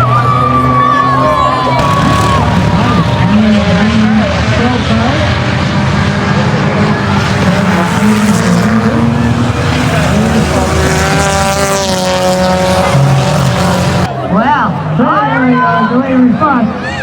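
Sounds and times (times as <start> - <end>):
car engine passing: 0.0 - 15.0
race car engines: 0.0 - 17.0.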